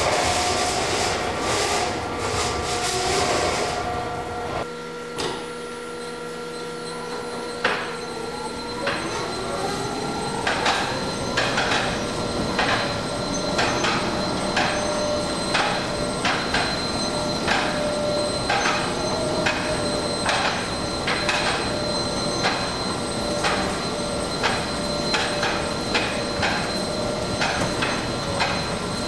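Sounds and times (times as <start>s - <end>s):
motor whine: 3.5s - 29.0s.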